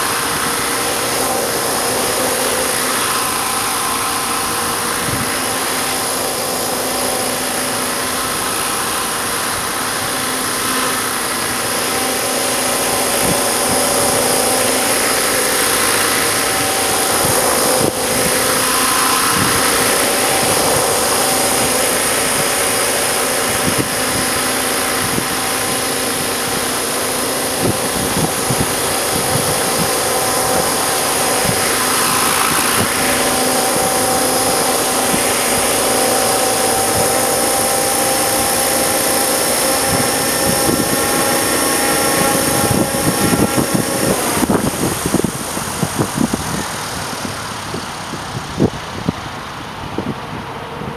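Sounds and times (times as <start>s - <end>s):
rc helicopter motor and rotor whine: 0.0s - 50.9s
wind buffeting microphone: 0.0s - 50.9s.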